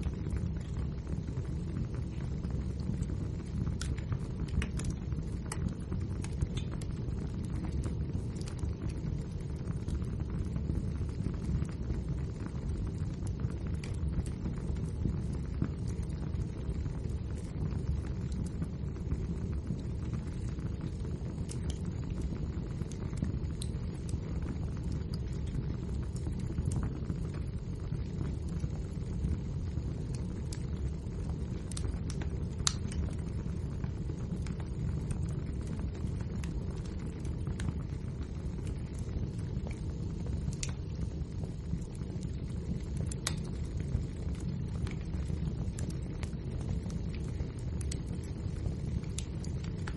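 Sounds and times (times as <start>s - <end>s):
fire crackling and popping: 0.0s - 49.9s
wood fire roaring: 0.0s - 49.9s.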